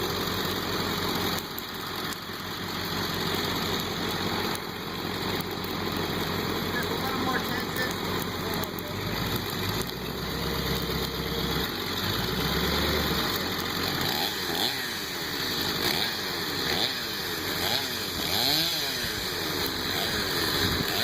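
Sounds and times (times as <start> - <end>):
chainsaw running: 0.0 - 21.0.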